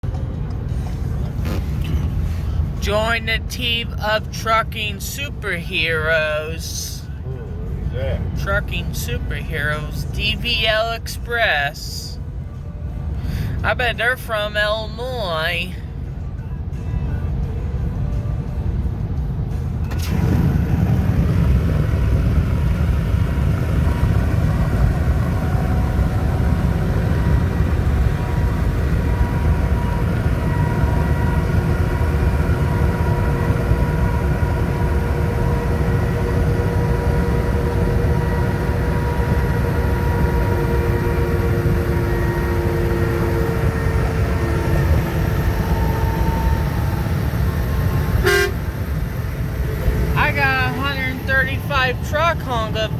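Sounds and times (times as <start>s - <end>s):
faint shifting tones: 0.0s - 52.9s
low rumble of road vehicles: 0.0s - 52.9s.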